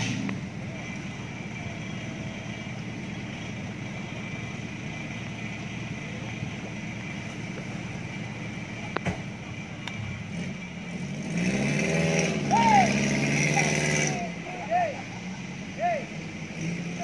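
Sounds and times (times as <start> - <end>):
off-road engines running at low revs: 0.0 - 17.0.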